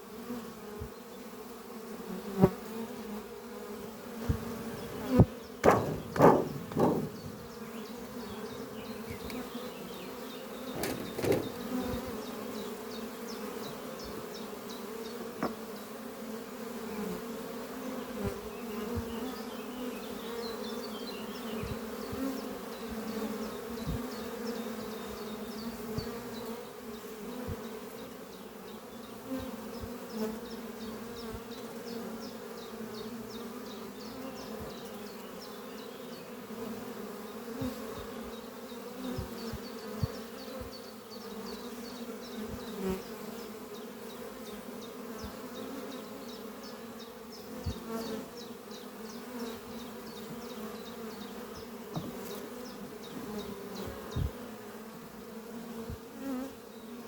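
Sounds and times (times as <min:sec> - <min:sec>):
bee colony humming: 0:00.0 - 0:57.0
bees buzzing past: 0:00.0 - 0:57.0.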